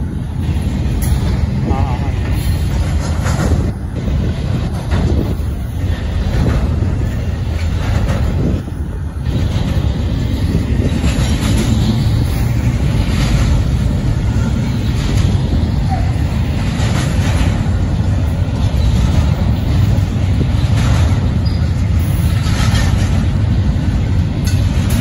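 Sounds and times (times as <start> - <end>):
freight cars clanking: 0.0 - 25.0
train wheels rumbling on rails: 0.0 - 25.0.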